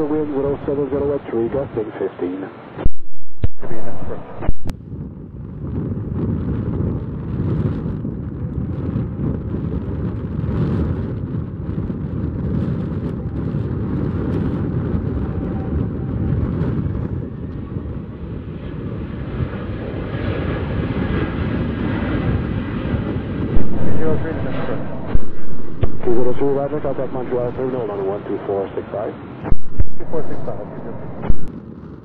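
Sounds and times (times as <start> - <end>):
jet airliner engines roaring: 0.0 - 10.4, 11.2 - 32.0.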